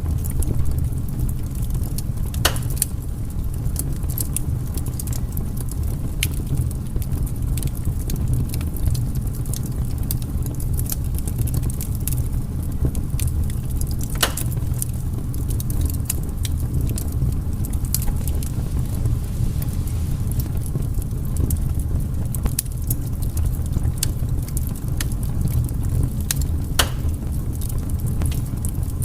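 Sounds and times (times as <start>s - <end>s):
firewood crackling and popping: 0.0s - 29.0s
low fire rumble: 0.0s - 29.0s.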